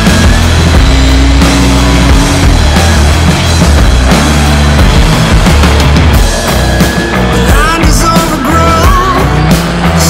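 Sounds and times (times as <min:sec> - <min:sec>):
loud music with bass notes: 0:00.0 - 0:10.0.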